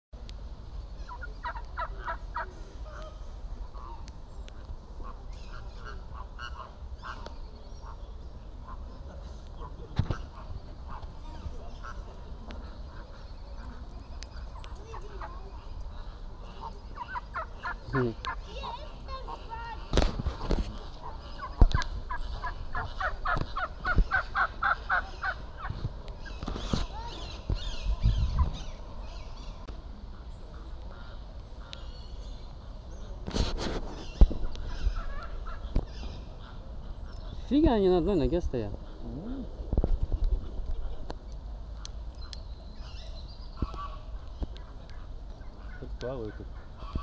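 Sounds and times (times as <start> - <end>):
flamingos calling: 1.0 - 4.2, 4.9 - 32.4, 34.0 - 37.5, 40.3 - 47.0.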